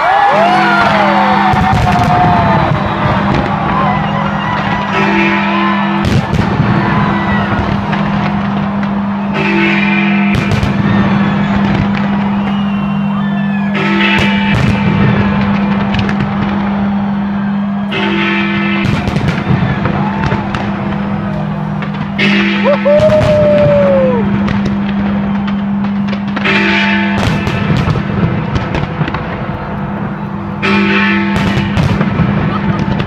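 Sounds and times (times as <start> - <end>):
firework bangs: 0.6 - 33.0.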